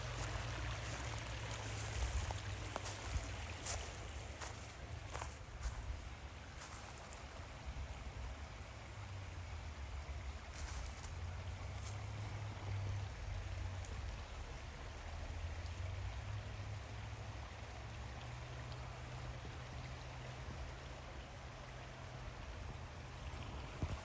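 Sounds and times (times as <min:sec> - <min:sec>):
creek water flowing: 0:00.0 - 0:24.0.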